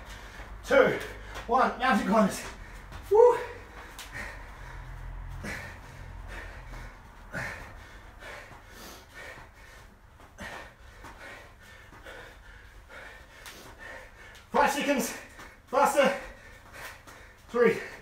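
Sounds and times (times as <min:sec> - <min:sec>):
man breathing hard: 0:00.0 - 0:01.6, 0:02.2 - 0:18.0.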